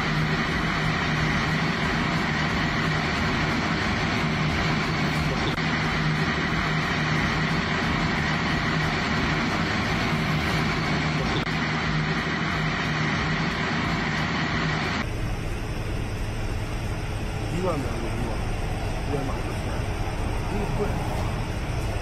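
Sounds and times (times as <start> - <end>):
constant low hum: 0.0 - 22.0
fire rushing: 0.0 - 22.0.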